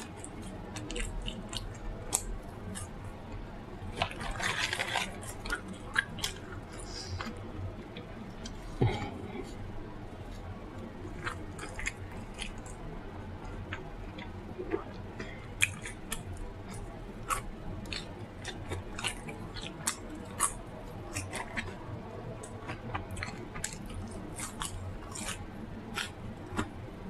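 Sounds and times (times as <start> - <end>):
chewing and biting: 0.0 - 7.4, 10.3 - 12.8, 13.4 - 26.9
steady low hum: 0.0 - 27.0.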